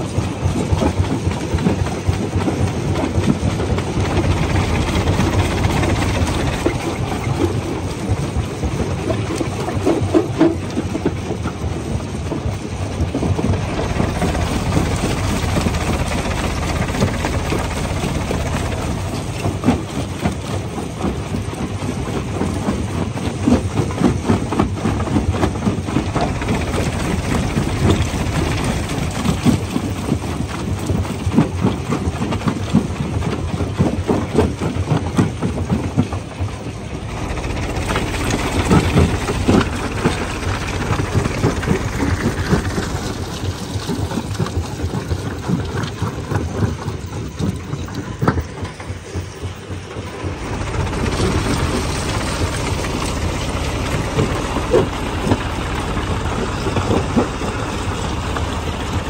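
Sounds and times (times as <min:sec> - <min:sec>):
jaw crusher rumble: 0:00.0 - 0:59.0.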